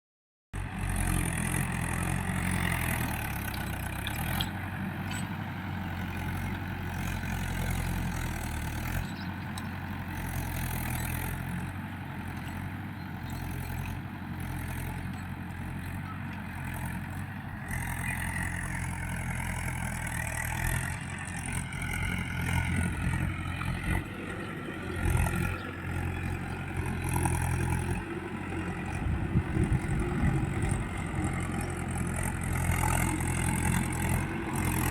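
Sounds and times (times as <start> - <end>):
tractor diesel engine ploughing: 0.6 - 34.9.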